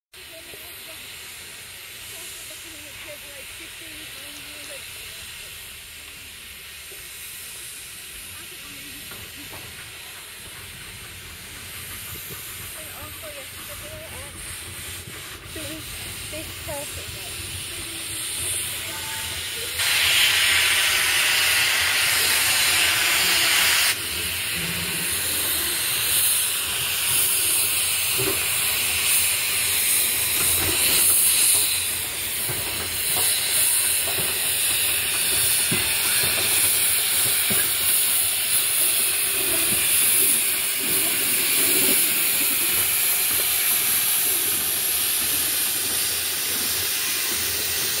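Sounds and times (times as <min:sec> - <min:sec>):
steam locomotive hissing: 0:00.1 - 0:48.0
loud burst of steam: 0:00.2 - 0:48.0.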